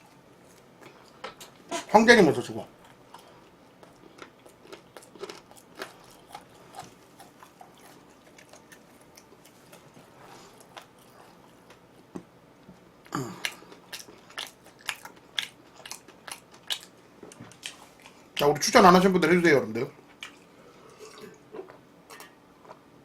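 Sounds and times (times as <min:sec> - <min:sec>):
person chewing food: 0:02.8 - 0:18.4, 0:20.1 - 0:22.8.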